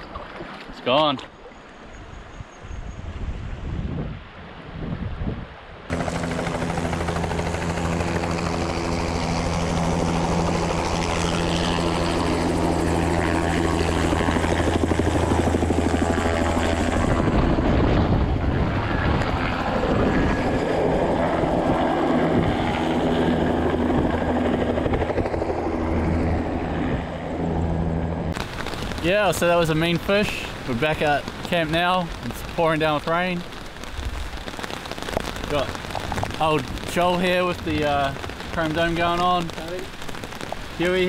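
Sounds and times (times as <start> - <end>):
helicopter flying low overhead: 5.9 - 41.0.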